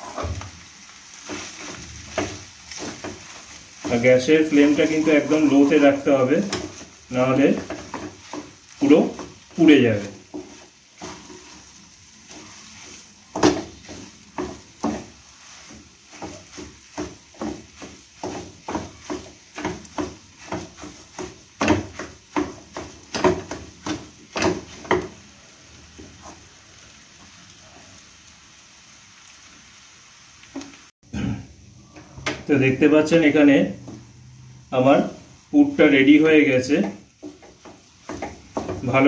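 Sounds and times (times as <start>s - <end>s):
wooden spatula scraping a pan: 0.0s - 25.3s, 25.9s - 27.9s, 32.0s - 39.0s.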